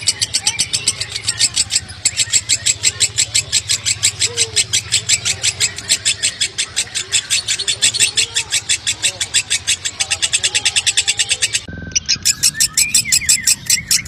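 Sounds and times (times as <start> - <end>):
lovebird chattering: 0.0 - 14.0.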